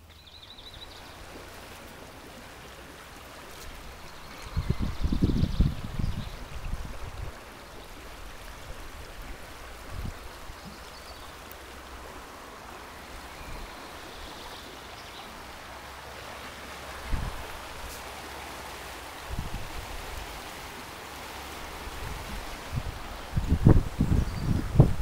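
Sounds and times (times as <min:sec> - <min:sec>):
river running over stones: 0:00.0 - 0:25.0.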